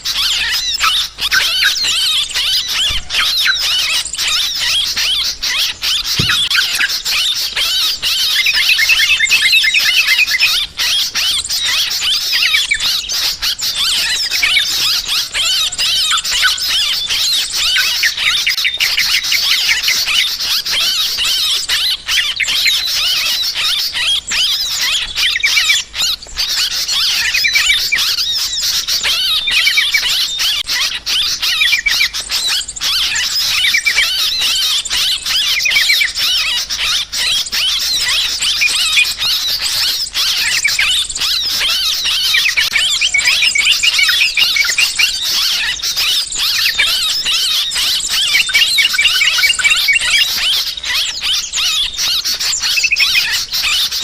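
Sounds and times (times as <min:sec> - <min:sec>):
bulbuls chattering: 0:00.0 - 0:54.0.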